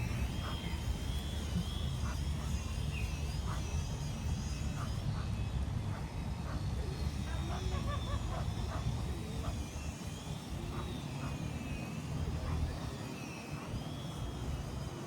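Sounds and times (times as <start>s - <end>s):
distant engines rumbling: 0.0s - 15.0s
faint high wavering whine: 0.0s - 15.0s.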